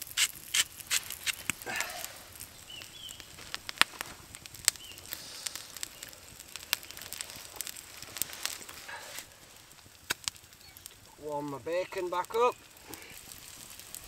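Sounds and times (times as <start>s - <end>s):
food sizzling in a pan: 0.0s - 14.0s
sharp pops and crackles: 0.0s - 14.0s.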